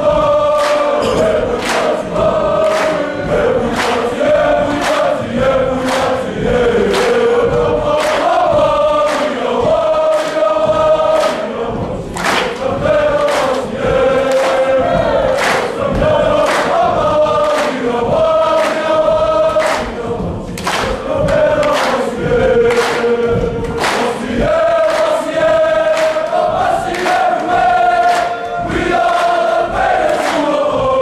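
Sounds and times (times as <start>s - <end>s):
group singing a hymn: 0.0s - 31.0s.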